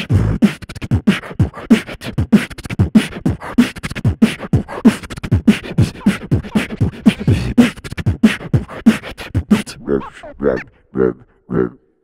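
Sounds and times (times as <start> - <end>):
beatboxing: 0.0 - 11.8.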